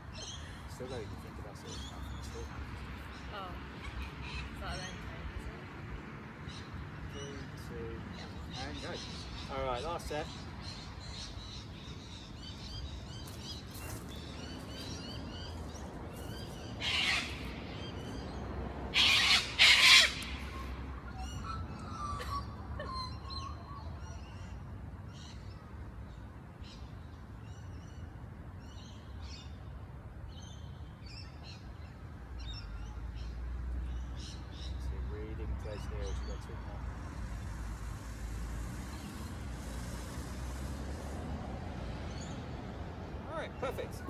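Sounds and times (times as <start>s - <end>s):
small birds chirping: 0.0s - 29.7s, 30.3s - 41.2s, 41.8s - 44.0s.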